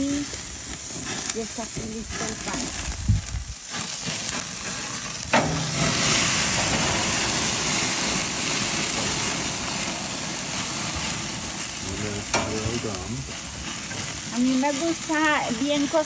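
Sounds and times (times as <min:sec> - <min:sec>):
meat sizzling on a grill: 0:00.0 - 0:16.0.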